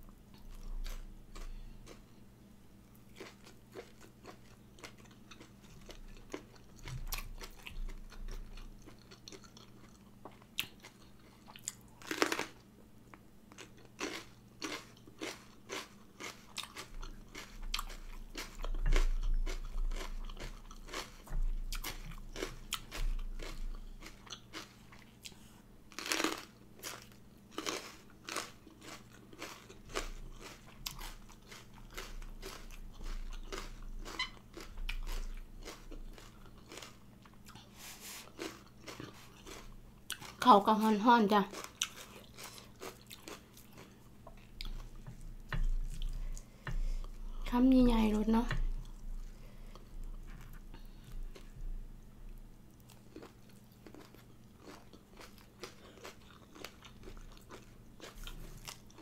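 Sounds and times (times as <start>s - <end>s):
person chewing and crunching food: 0.1s - 59.0s.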